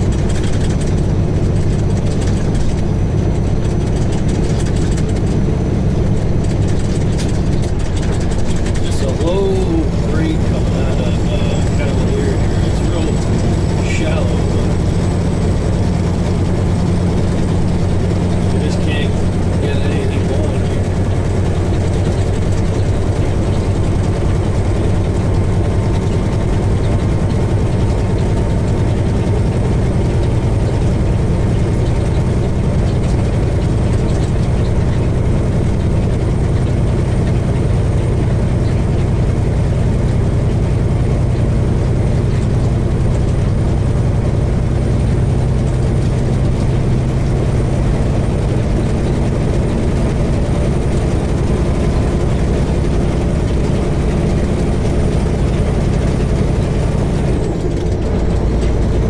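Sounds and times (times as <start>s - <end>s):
truck diesel engine drone: 0.0s - 59.0s.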